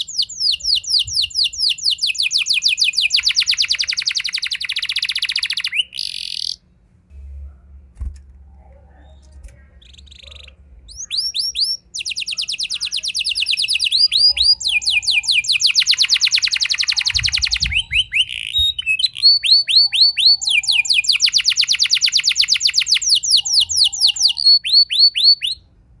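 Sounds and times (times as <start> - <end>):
canary singing trills: 0.0 - 6.8, 8.9 - 25.7.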